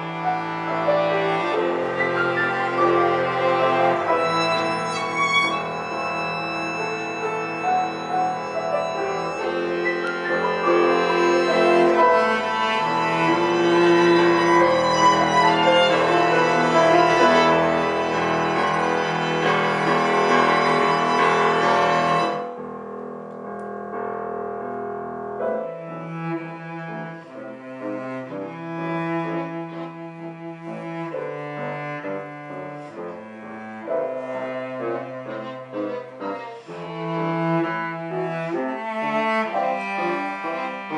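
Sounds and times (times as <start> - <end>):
classical piano trio: 0.0 - 40.9.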